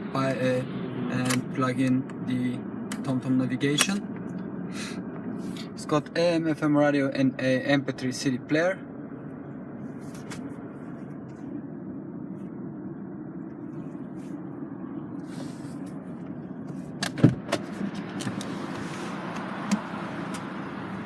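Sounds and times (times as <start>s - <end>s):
low hum in car cabin: 0.0s - 21.0s.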